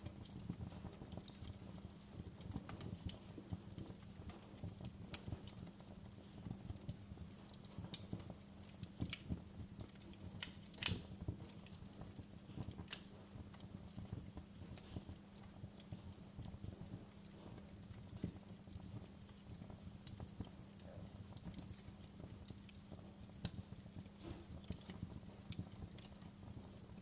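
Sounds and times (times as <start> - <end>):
low rumble of fire: 0.0 - 27.0
wood fire crackling and popping: 0.0 - 27.0.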